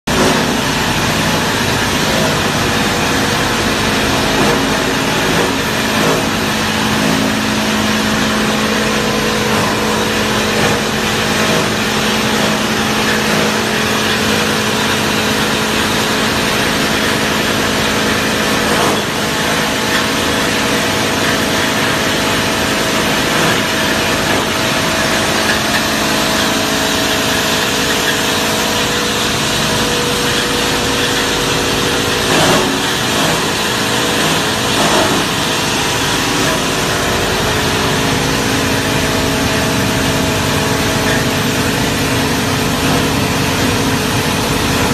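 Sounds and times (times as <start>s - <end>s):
machine chopping scrap cable: 0.0s - 44.9s
steady machine hum: 0.0s - 44.9s.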